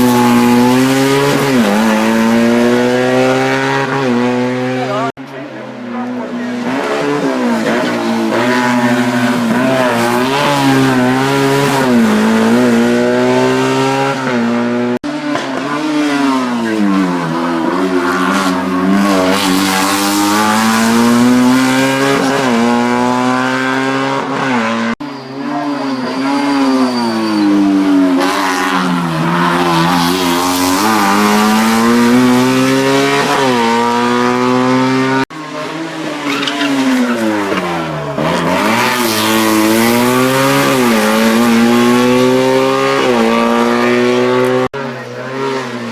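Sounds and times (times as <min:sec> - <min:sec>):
racing car engines at full throttle: 0:00.0 - 0:45.9.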